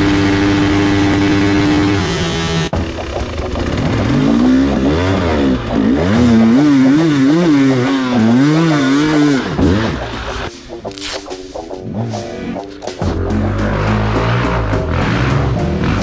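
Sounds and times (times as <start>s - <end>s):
dirt bike engine revving: 0.0s - 10.8s, 11.8s - 16.0s.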